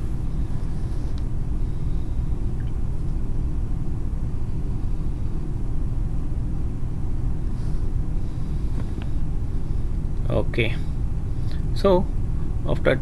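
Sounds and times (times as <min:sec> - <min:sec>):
engine-room machinery rumble: 0:00.0 - 0:13.0.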